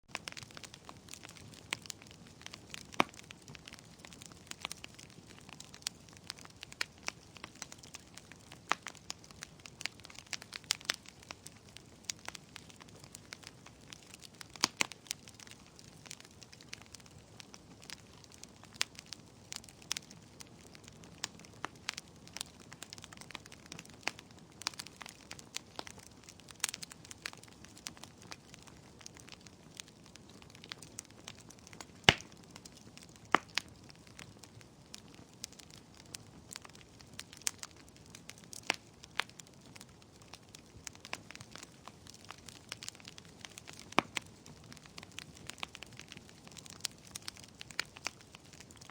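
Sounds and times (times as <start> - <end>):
wood fire crackling: 0.1 - 48.9.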